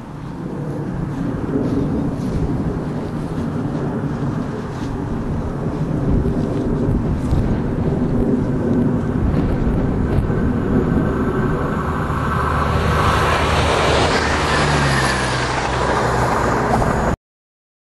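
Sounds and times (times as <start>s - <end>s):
steady low rumble: 0.0s - 17.2s
train running noise: 0.0s - 17.2s.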